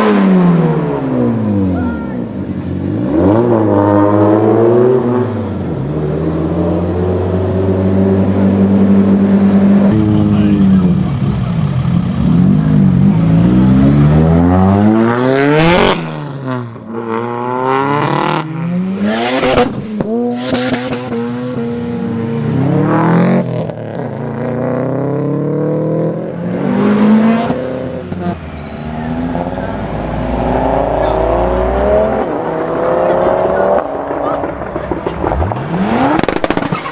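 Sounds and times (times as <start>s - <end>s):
car engine revving hard: 0.0s - 36.9s.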